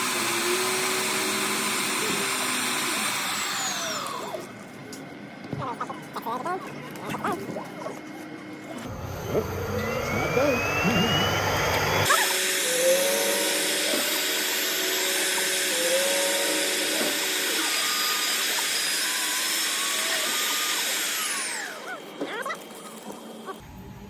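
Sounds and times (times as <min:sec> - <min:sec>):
knife-sharpening machine whirring: 0:00.0 - 0:04.6, 0:08.8 - 0:23.6.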